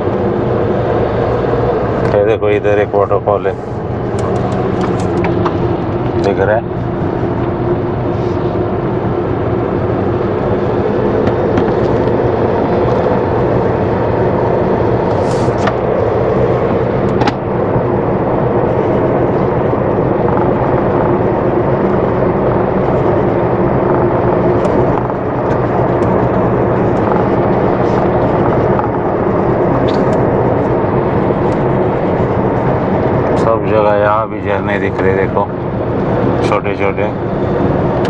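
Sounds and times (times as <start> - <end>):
road noise: 0.0 - 38.0
vehicle engine drone: 0.0 - 38.0.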